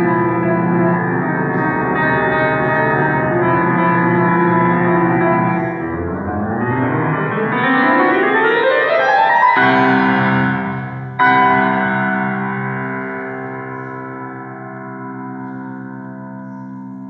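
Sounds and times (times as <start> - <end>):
grand piano run of notes: 0.0 - 17.0
piano chords ringing: 0.0 - 17.0.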